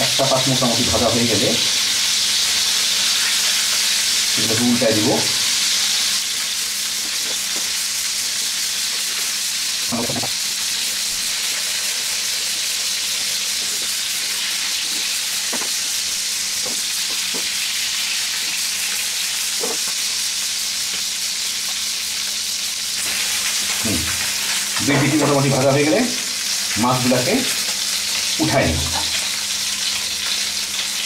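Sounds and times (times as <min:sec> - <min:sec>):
fish sizzling in hot oil: 0:00.0 - 0:31.0.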